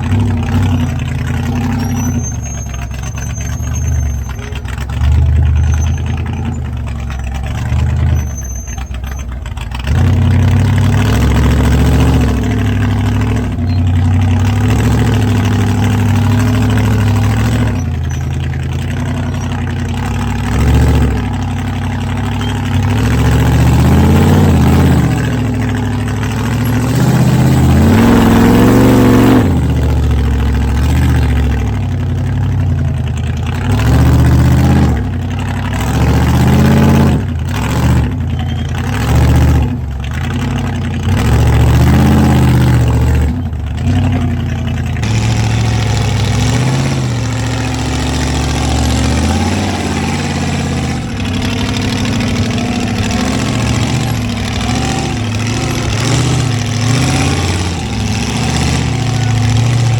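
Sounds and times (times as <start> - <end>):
engine idling and revving: 0.0 - 59.9.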